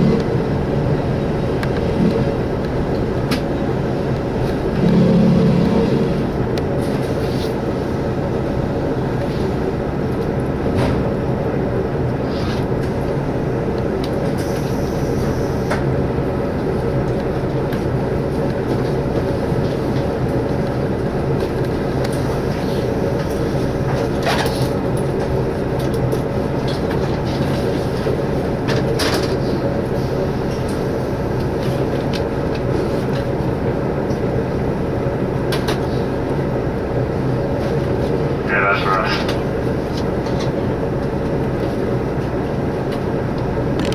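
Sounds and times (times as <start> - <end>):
railcar engine and running noise: 0.0 - 43.9.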